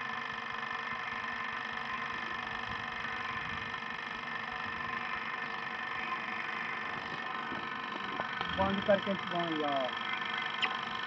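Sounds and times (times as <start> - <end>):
electric motor humming: 0.0 - 11.0
whining tones: 0.0 - 11.0.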